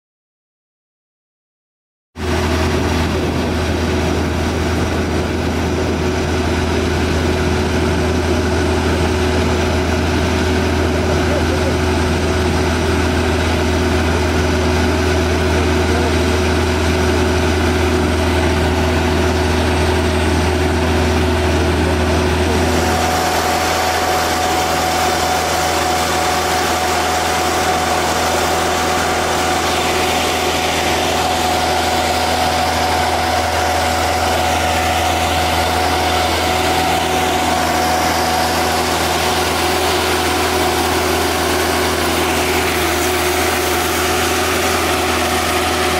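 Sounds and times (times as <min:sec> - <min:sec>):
diesel engine droning: 0:02.2 - 0:45.9
steady higher whine: 0:02.2 - 0:45.9.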